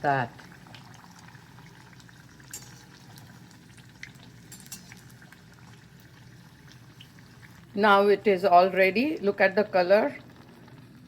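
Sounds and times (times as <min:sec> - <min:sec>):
fritters sizzling in hot oil: 0:00.0 - 0:11.0.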